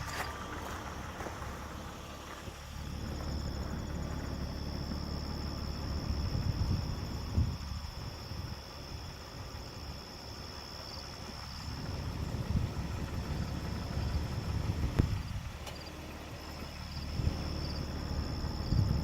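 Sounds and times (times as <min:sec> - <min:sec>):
low rumble: 0:00.0 - 0:10.0, 0:11.3 - 0:19.0
night insects chirring: 0:00.0 - 0:19.0.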